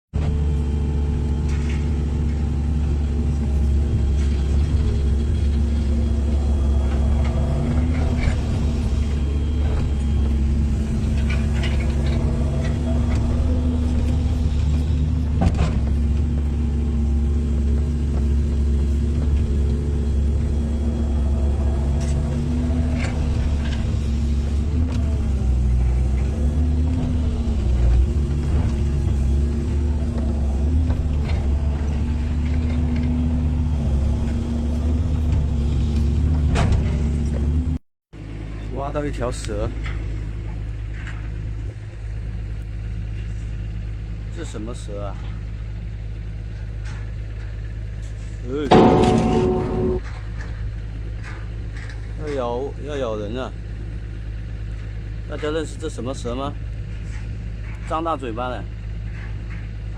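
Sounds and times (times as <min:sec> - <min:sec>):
excavator diesel engine droning: 0:00.2 - 0:59.9.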